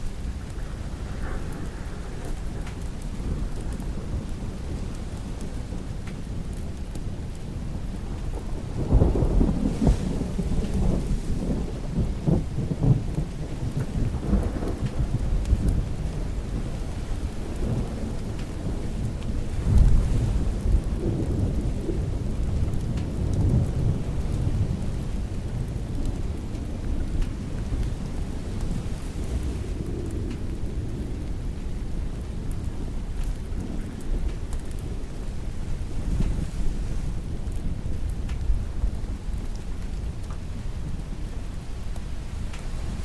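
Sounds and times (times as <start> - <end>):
steady rain: 0.0 - 43.0
thunder rumbling: 0.0 - 43.0.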